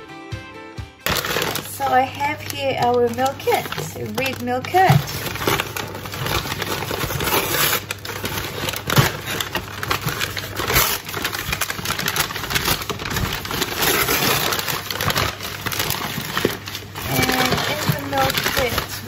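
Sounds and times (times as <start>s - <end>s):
paper bag crinkling: 1.0s - 19.0s.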